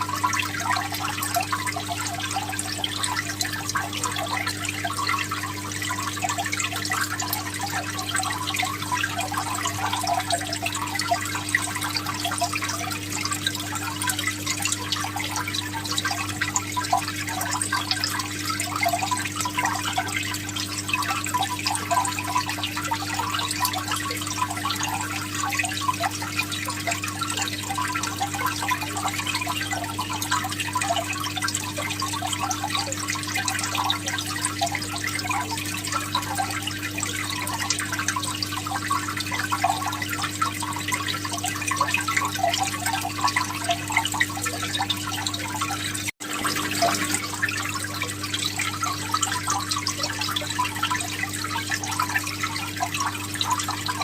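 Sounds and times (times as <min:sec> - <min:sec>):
water trickling and bubbling: 0:00.0 - 0:54.0.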